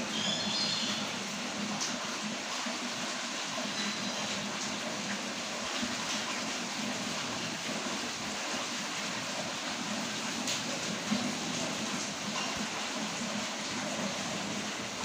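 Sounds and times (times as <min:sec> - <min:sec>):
rain pouring: 0:00.0 - 0:15.0.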